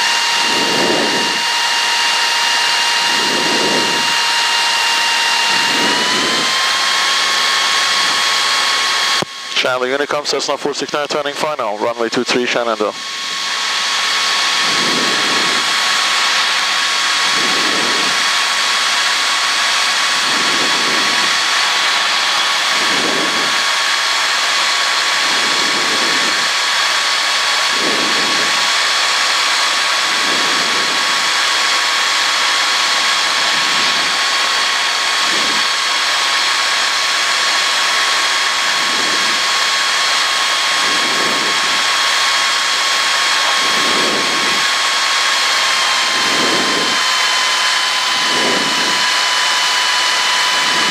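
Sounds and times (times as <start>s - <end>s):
small plane engine drone: 0.0s - 50.9s
thin high whine: 0.0s - 50.9s.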